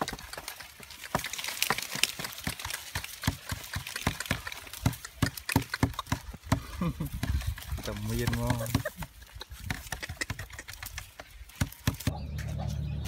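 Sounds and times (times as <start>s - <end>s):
dry grass and leaves crackling: 0.0s - 13.0s.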